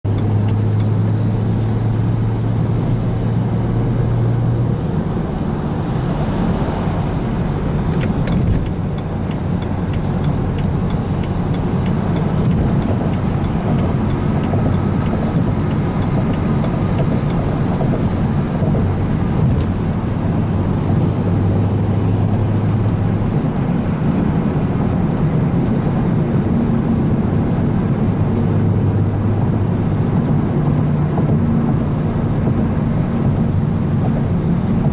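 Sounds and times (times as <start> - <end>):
car engine drone: 0.0 - 34.9
road noise: 0.0 - 34.9.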